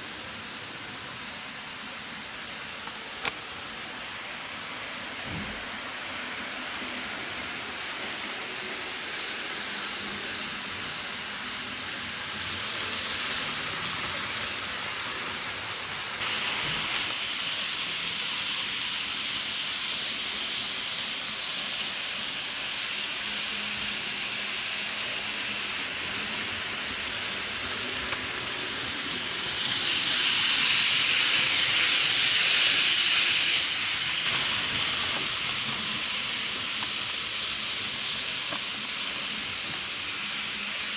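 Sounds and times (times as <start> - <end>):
model train whirring: 0.0 - 40.9.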